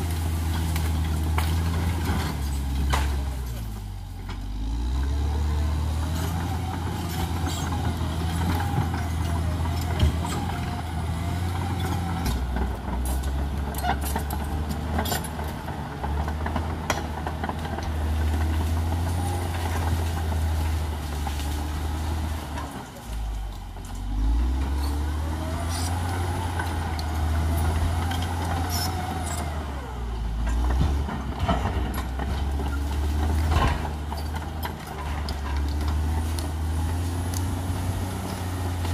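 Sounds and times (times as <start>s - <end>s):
bulldozer diesel engine: 0.0s - 38.9s.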